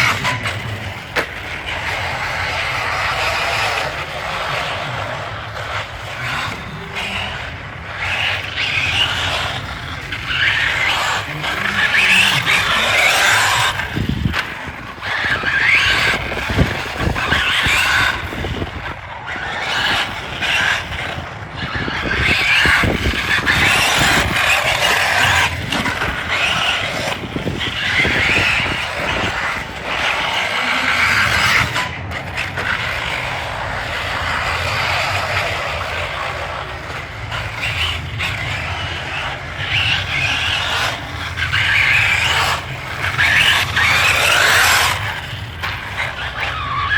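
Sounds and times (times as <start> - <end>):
radio-controlled car motor whining: 0.0 - 46.9
tyres skidding: 0.0 - 46.9.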